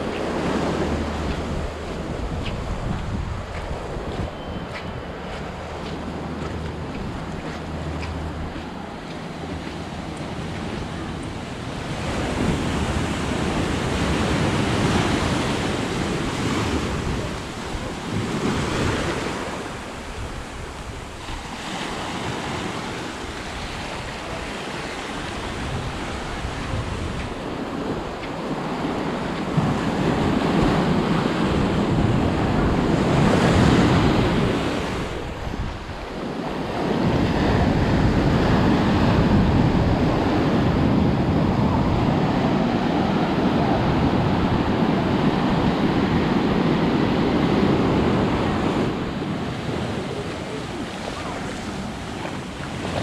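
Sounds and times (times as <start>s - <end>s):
ocean surf washing on beach: 0.0s - 53.0s
wind rumble on microphone: 0.0s - 53.0s.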